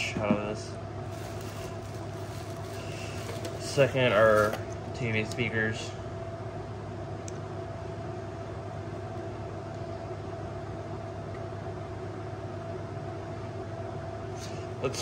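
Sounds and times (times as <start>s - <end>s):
faint constant whine: 0.0s - 15.0s
mechanical hum and hiss: 0.0s - 15.0s.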